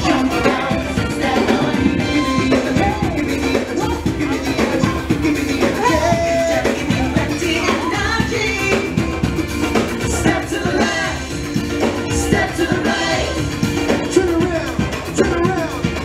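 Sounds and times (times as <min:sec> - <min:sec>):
person singing: 0:00.0 - 0:16.0
steady drum beat: 0:00.0 - 0:16.0
street band playing dance music: 0:00.0 - 0:16.0.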